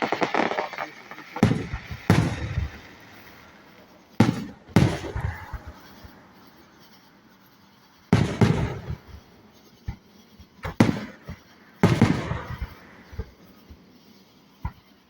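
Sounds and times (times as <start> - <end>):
fireworks booming: 0.0 - 6.9, 8.1 - 13.7.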